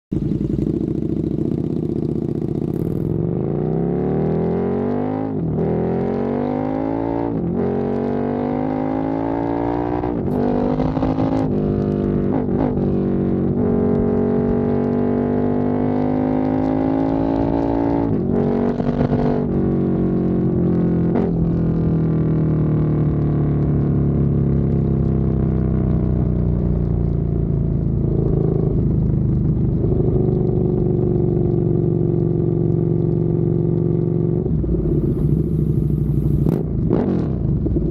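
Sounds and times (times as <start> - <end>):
motorcycle engine accelerating: 0.1 - 37.9.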